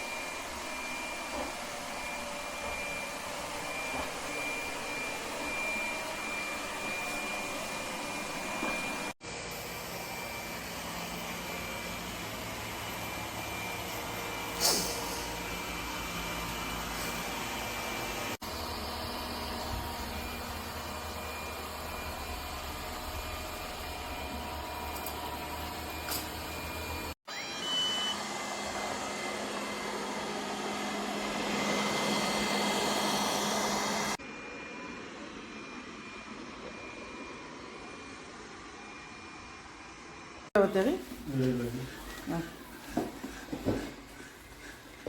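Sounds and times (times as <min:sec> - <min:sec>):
robot vacuum cleaner whirring: 0:00.0 - 0:40.2.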